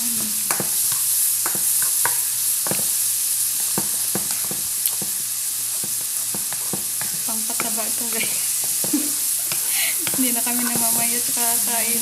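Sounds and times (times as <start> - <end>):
rice sizzling in a hot pan: 0.0 - 12.0
spatula clacking against pan: 0.5 - 3.0, 3.7 - 11.1.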